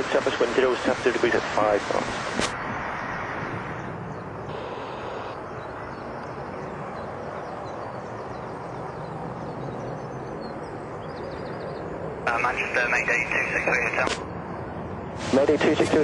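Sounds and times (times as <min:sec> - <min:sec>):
jet aircraft engine noise: 0:00.0 - 0:16.0.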